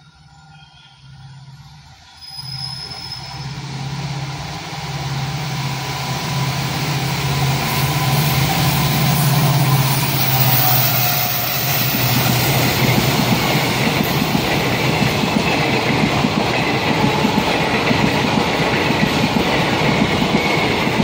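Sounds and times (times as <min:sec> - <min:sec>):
train rumbling on rails: 0:00.0 - 0:21.0
diesel locomotive engine running: 0:03.3 - 0:21.0.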